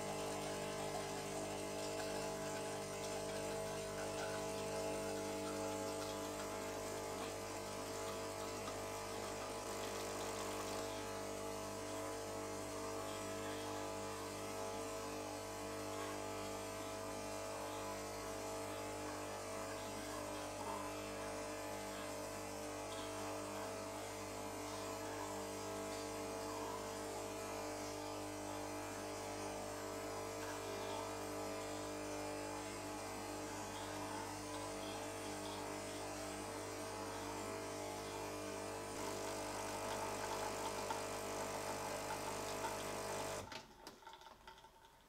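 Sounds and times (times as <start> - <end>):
coffee machine buzzing hum: 0.0 - 45.0.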